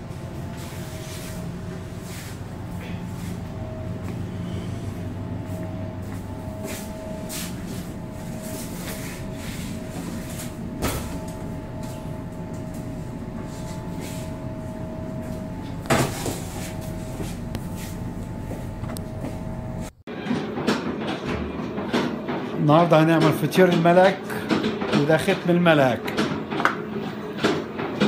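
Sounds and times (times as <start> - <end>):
machine humming: 0.0 - 28.0.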